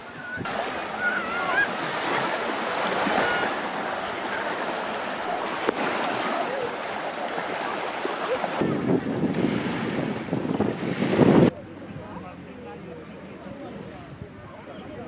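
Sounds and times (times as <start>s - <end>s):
small waves washing onto beach: 0.0s - 12.5s
faint voices: 0.0s - 15.0s.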